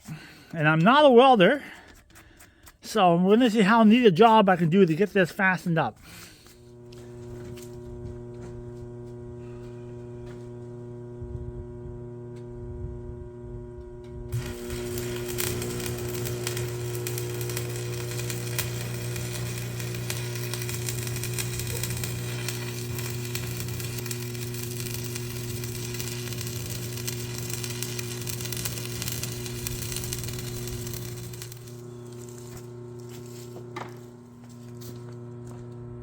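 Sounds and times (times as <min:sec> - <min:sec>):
constant hum: 0:00.1 - 0:36.0
arc welding crackling sizzle: 0:03.3 - 0:12.5, 0:13.8 - 0:35.8.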